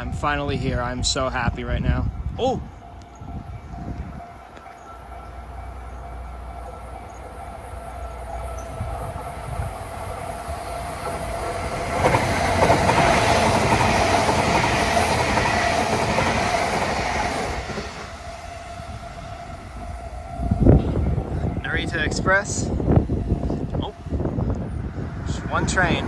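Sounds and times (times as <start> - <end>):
crossing warning signal: 0.0 - 26.0
electric train passing: 0.0 - 26.0.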